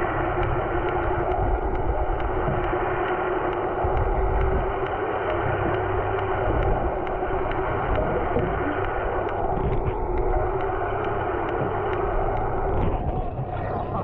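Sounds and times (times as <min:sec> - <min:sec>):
rushing water: 0:00.0 - 0:14.0
underwater hum: 0:00.0 - 0:14.0
faint regular ticks: 0:00.3 - 0:13.2.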